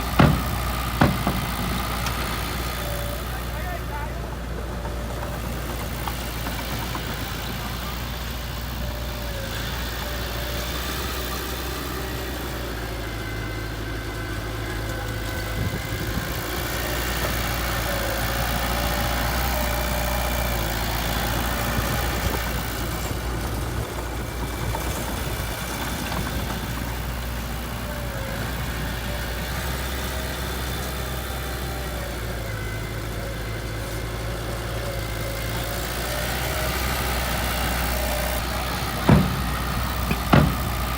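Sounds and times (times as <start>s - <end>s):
heavy diesel engine idling: 0.0s - 40.9s.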